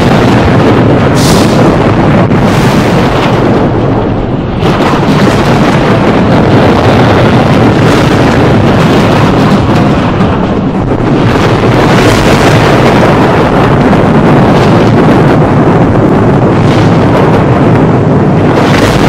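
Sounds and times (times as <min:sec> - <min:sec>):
thunder: 0:00.0 - 0:19.0.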